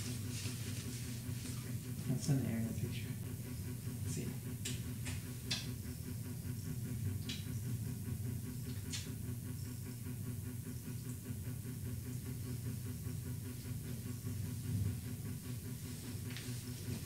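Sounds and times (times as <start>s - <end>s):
low mechanical room hum: 0.0s - 17.0s.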